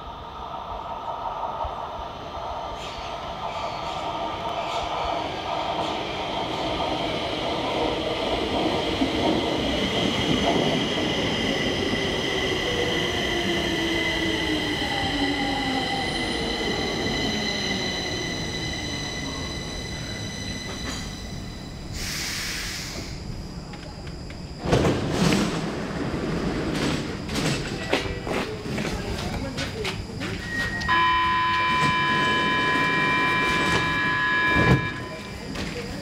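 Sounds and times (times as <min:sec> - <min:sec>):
metro train electric whine: 0:00.0 - 0:36.0.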